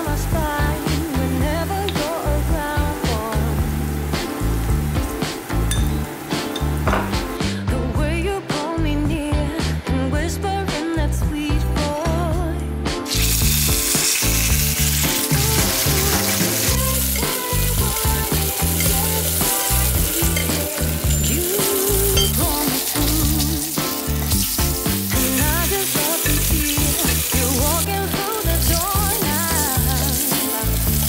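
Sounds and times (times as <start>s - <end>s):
fish sizzling in a frying pan: 0.0s - 7.4s, 13.1s - 31.0s
background music: 0.0s - 31.0s.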